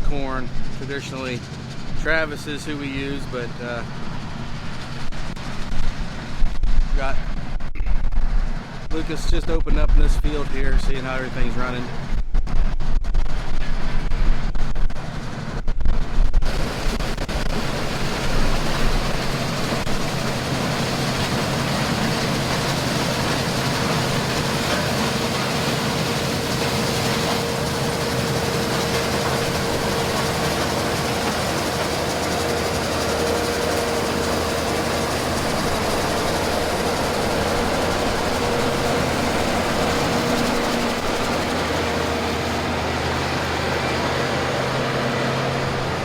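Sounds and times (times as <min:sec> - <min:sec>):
combine harvester drone: 0:00.0 - 0:46.0
faint steady whine: 0:00.0 - 0:46.0.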